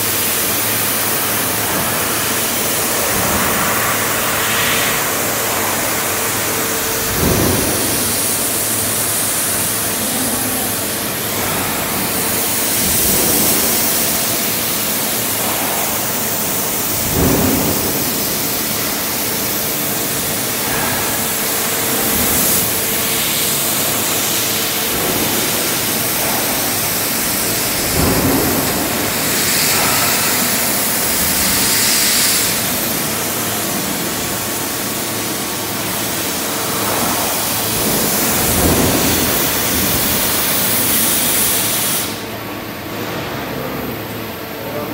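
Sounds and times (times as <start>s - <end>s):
laser cutter hissing: 0.0s - 42.2s.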